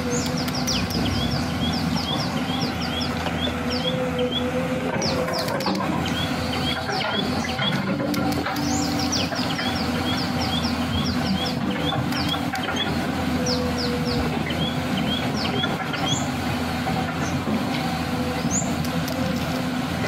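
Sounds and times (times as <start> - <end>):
small birds chirping: 0.0 - 16.6
low mechanical rumble: 0.0 - 20.0.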